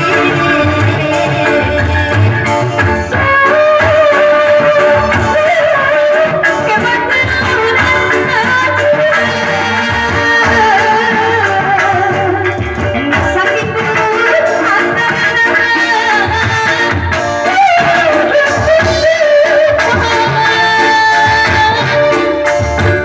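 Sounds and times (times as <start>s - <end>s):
instrumental backing with low beat: 0.0s - 23.0s
person singing pop song: 0.0s - 23.0s.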